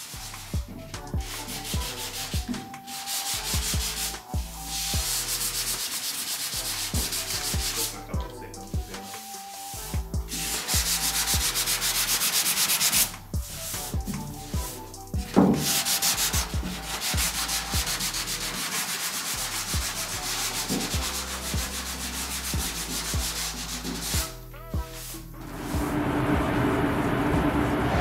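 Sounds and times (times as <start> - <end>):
sanding sponge scrubbing: 0.0 - 27.3.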